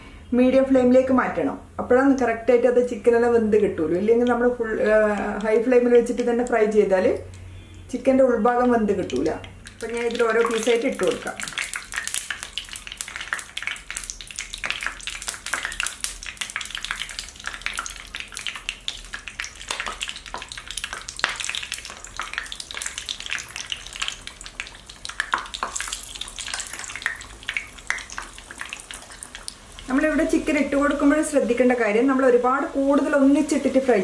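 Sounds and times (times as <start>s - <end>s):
chicken deep-frying in oil: 4.2s - 6.6s, 8.6s - 34.0s.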